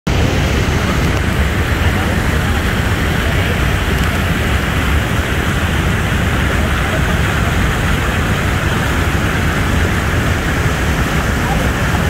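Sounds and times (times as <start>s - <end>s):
rushing white water: 0.1s - 12.0s.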